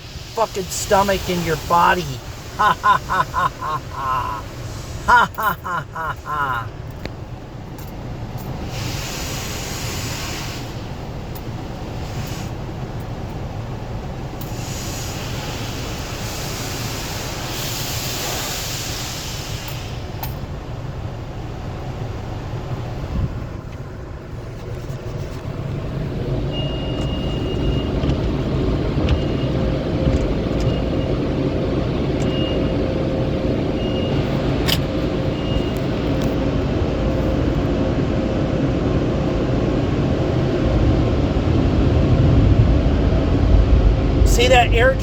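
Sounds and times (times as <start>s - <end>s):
car wash machinery rumbling: 0.0s - 45.0s.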